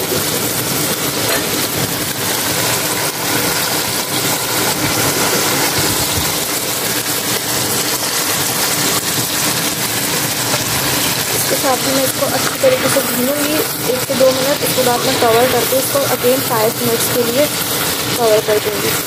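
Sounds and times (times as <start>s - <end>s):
food frying in hot oil: 0.0s - 19.0s.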